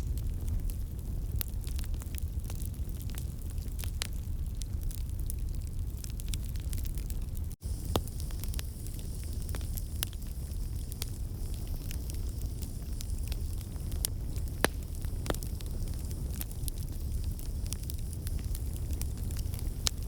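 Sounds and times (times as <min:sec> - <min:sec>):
fire pops and snaps: 0:00.0 - 0:20.0
wood fire crackling: 0:00.0 - 0:20.0.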